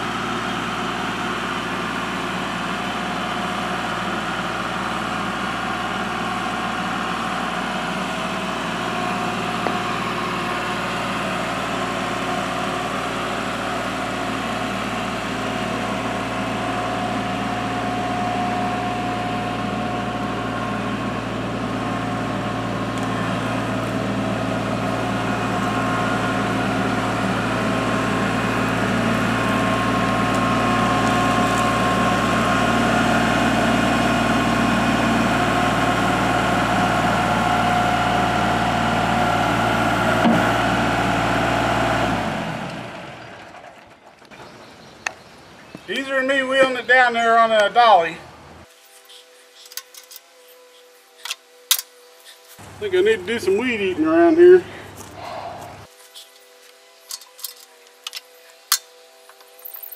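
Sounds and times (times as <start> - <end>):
tractor diesel engine running: 0.0 - 51.3, 52.2 - 56.3.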